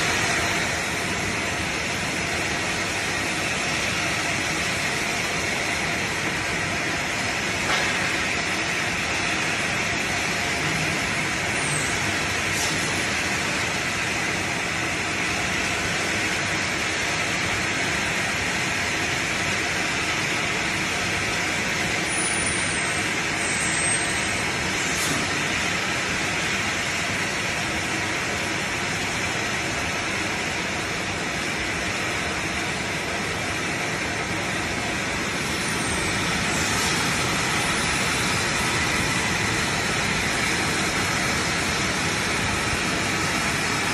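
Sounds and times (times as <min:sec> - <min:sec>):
machine conveyor running: 0:00.0 - 0:43.9.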